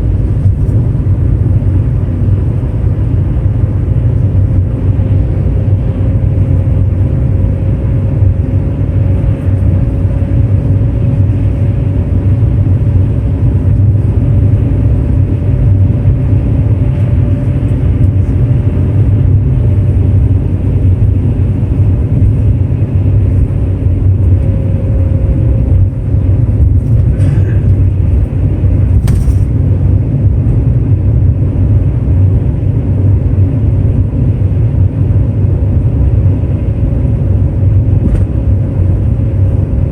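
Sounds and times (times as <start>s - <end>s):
car rumbling on the move: 0.0s - 39.9s
faint steady whine: 0.0s - 39.9s.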